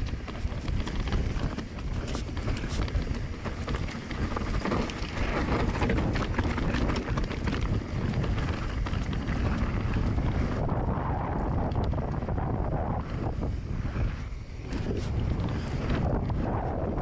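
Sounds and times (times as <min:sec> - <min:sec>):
bike rattling: 0:00.0 - 0:17.0
bike tyres on dirt trail: 0:00.0 - 0:17.0
wind buffeting microphone: 0:00.0 - 0:17.0.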